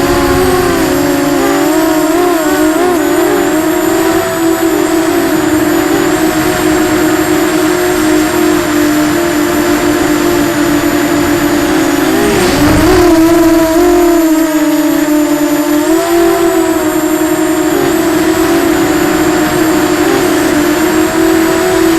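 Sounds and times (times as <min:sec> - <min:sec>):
quadcopter motors whining: 0:00.0 - 0:21.9.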